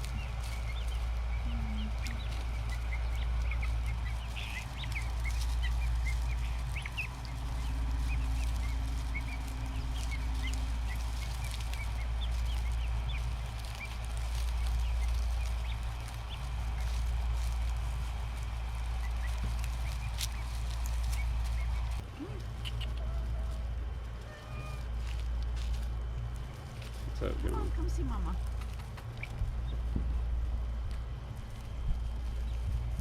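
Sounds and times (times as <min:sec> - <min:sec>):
guinea fowl chicks peeping: 0:00.0 - 0:33.0
low rumble: 0:00.0 - 0:33.0.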